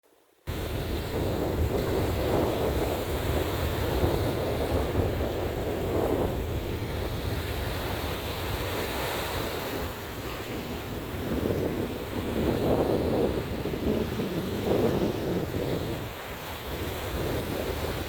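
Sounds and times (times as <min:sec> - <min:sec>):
surf breaking on beach: 0:00.5 - 0:18.0
wind rumbling on microphone: 0:00.5 - 0:18.0.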